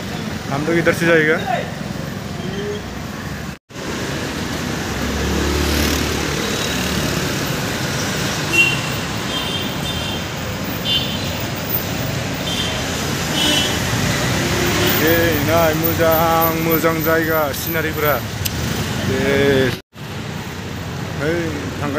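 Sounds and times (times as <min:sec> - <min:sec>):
street traffic engine and road noise: 0:00.0 - 0:21.9.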